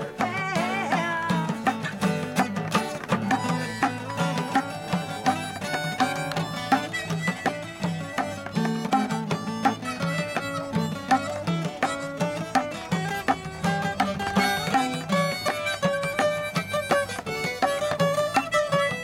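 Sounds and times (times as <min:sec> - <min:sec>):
hand drum: 0:00.0 - 0:19.0
strummed acoustic guitars: 0:00.0 - 0:19.0
harmonica solo: 0:02.4 - 0:19.0.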